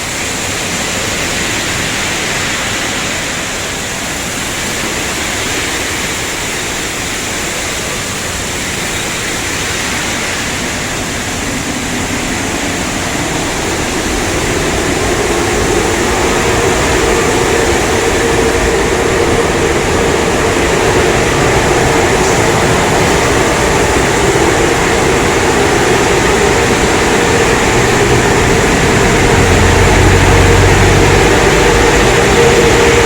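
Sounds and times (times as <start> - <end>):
car wash machinery: 0.0 - 33.0
water spray rushing: 0.0 - 33.0.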